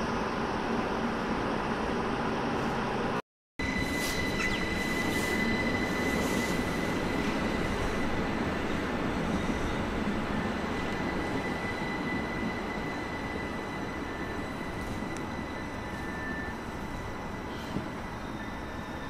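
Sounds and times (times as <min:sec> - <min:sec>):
train wheels rumbling on rail: 0:00.1 - 0:19.0
thin high whine: 0:03.6 - 0:19.0.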